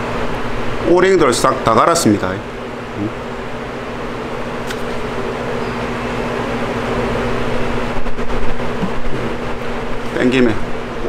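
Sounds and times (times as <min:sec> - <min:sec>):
motor hum with rushing noise: 0:00.0 - 0:11.0.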